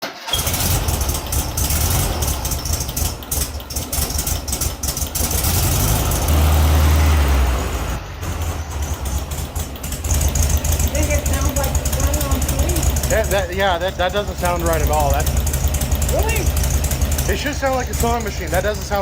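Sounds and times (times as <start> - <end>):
engine running rough with misfire: 0.0 - 19.0.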